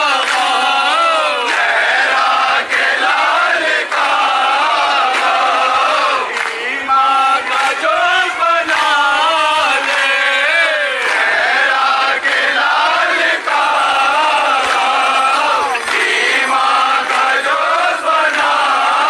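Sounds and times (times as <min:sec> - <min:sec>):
men chanting a lament: 0:00.0 - 0:19.0.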